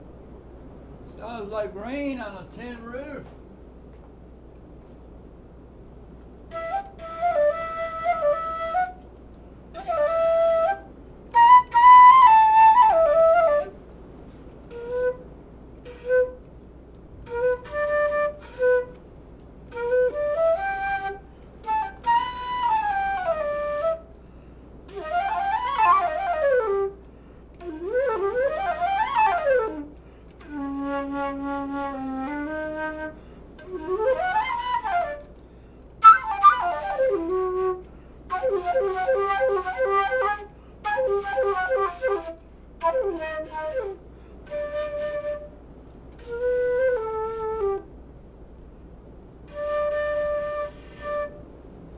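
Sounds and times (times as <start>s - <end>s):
low background hiss: 0.0s - 51.9s
curved-neck flute playing: 6.5s - 16.5s, 17.2s - 48.0s, 49.4s - 51.6s.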